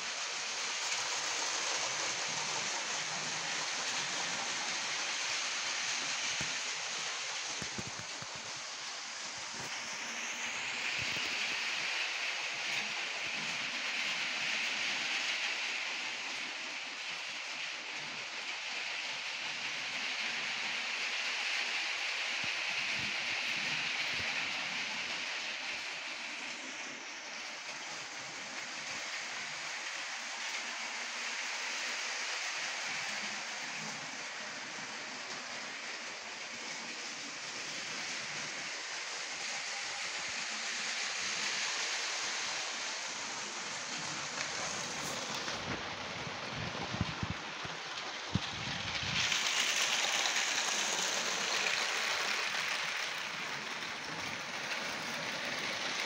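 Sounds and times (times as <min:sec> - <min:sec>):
toy train rattling on plastic track: 0:00.0 - 0:56.0.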